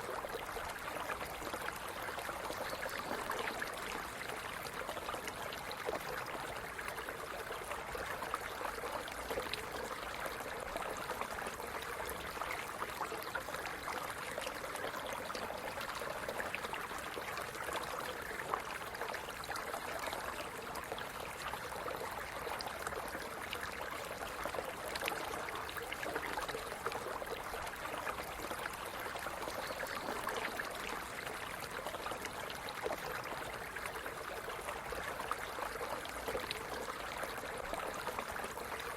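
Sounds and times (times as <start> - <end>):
stream water over stones: 0.0 - 38.9.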